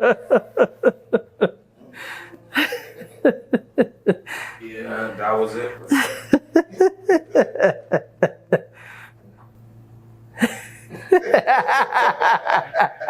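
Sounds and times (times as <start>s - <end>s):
men laughing: 0.0s - 5.2s, 5.8s - 9.1s, 10.4s - 13.0s.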